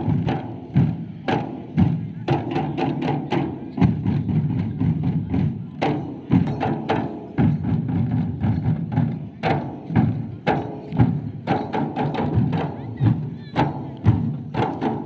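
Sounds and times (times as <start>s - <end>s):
loud sharp drum strikes: 0.0s - 15.0s.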